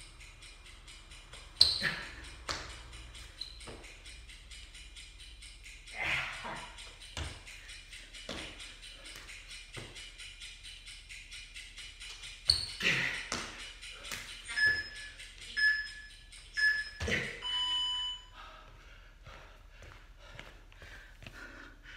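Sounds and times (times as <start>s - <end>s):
interval timer beeps: 0.0s - 18.4s.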